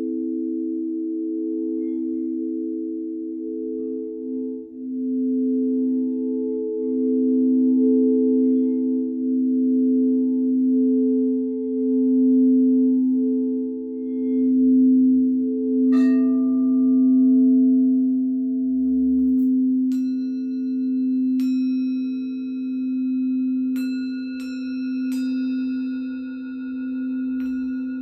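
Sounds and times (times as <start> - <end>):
singing bowl low drone: 0.0 - 28.0.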